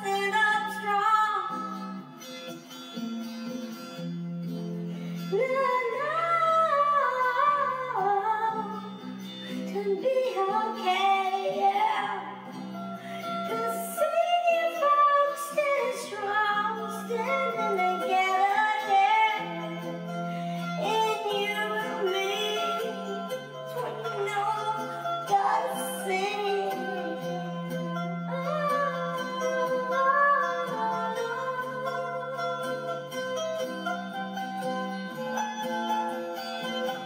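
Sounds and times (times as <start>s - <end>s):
woman singing: 0.0s - 2.0s, 5.3s - 33.9s
guitar accompaniment: 0.0s - 37.0s.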